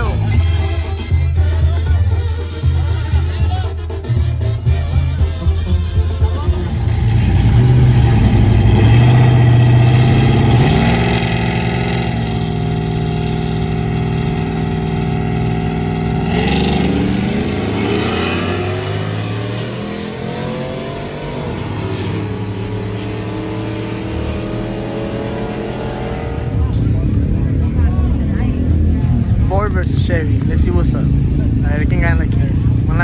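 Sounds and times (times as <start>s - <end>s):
truck engines revving: 0.0s - 33.0s.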